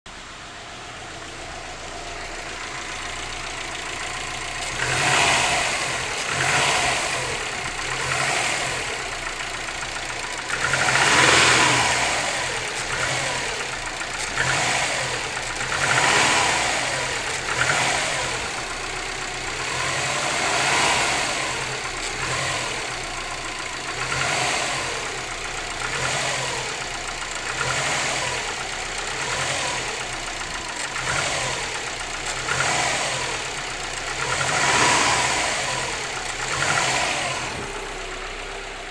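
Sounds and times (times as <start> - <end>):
car engine revving: 0.2 - 38.9
engine knocking: 1.4 - 38.9.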